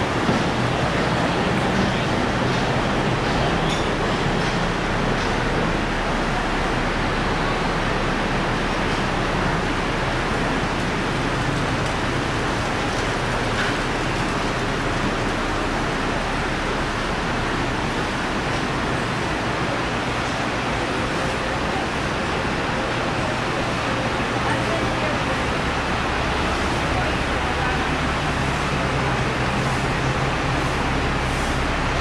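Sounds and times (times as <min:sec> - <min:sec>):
heavy rain on a metal roof: 0:00.0 - 0:32.0.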